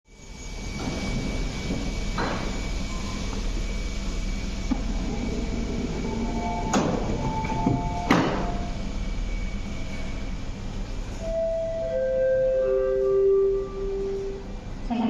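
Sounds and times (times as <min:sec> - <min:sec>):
train low hum: 0:00.1 - 0:15.0.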